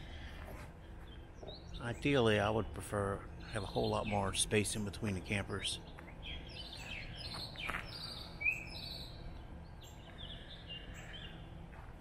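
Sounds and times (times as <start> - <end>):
songbirds chirping: 0.0 - 12.0
steady low hum: 0.0 - 12.0.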